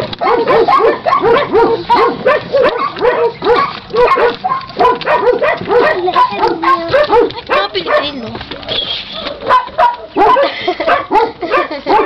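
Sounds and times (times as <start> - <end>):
small dogs barking and yipping: 0.0 - 12.0.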